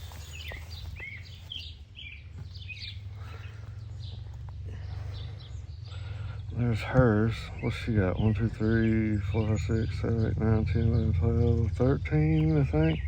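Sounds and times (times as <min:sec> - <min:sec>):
birds chirping and calling: 0:00.0 - 0:13.0
steady low hum: 0:00.0 - 0:13.0.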